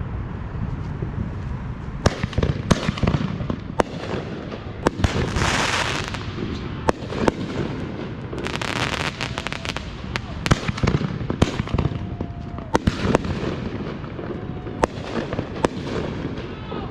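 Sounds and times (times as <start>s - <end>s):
firework bangs: 2.0s - 16.9s.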